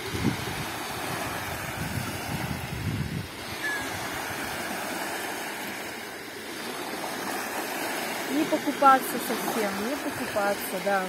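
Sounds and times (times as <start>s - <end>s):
waves lapping on sandy shore: 0.0s - 11.0s.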